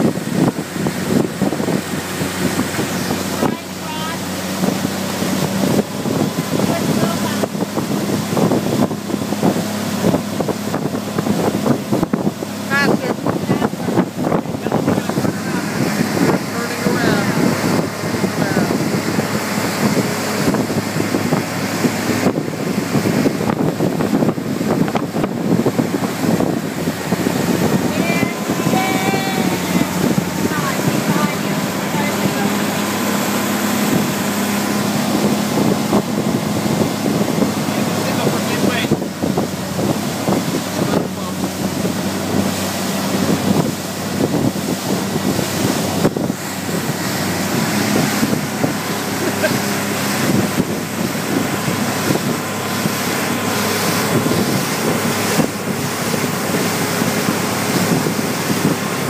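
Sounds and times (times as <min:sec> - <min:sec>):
churning wake rushing: 0:00.0 - 0:59.0
outboard motor running: 0:00.0 - 0:59.0
wind buffeting microphone: 0:00.0 - 0:59.0.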